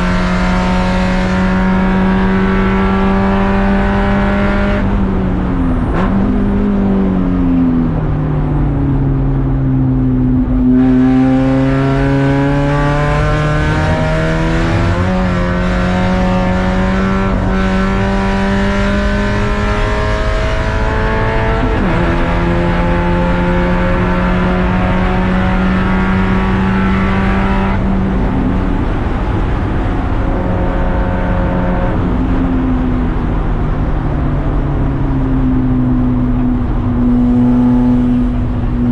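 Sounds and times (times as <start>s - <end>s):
race car engine revving: 0.0s - 8.5s, 10.3s - 34.6s, 35.7s - 38.9s.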